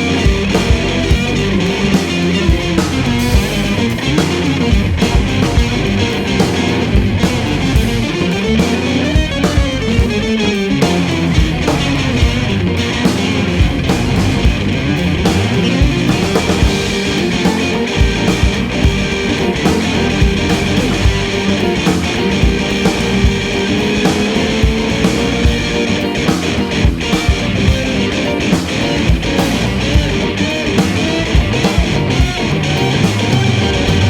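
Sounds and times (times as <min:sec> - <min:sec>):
instrumental band music: 0:00.0 - 0:34.0.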